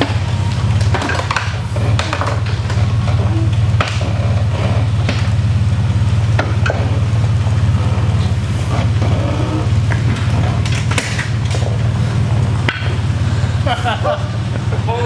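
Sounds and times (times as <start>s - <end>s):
car body creaking and cracking: 0.0s - 14.9s
truck engine running low: 0.0s - 15.0s.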